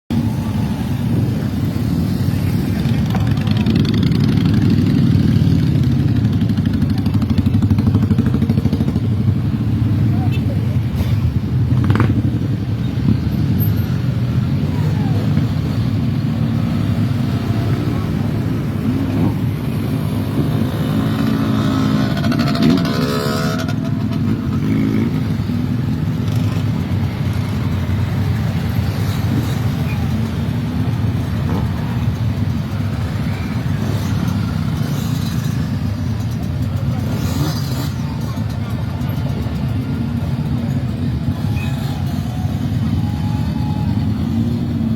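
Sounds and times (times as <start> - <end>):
motorcycle engines idling: 0.2 - 44.9
motorcycle engine revving: 1.4 - 42.6.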